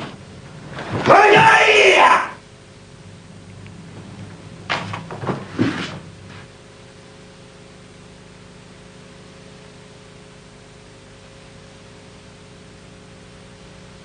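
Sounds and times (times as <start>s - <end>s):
videotape hiss and hum: 0.0s - 14.0s.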